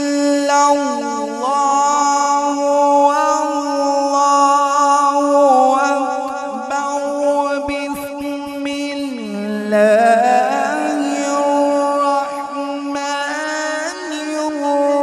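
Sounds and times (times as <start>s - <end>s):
man reciting a long held note: 0.0s - 15.0s.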